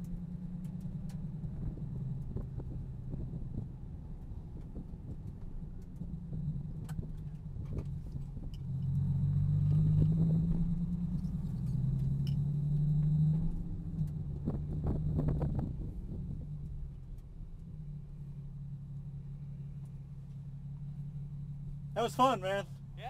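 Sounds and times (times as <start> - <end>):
car engine from inside cabin: 0.0 - 23.0.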